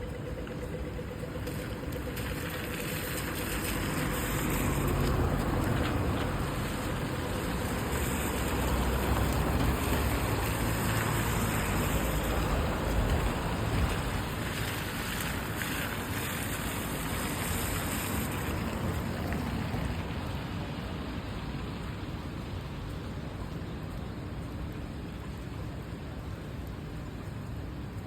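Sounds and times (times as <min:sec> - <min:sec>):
traffic on wet road: 0:00.0 - 0:28.0.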